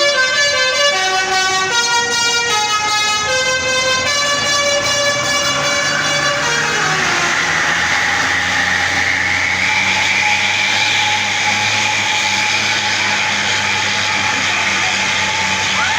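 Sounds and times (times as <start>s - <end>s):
bus engine running: 0.0s - 15.9s.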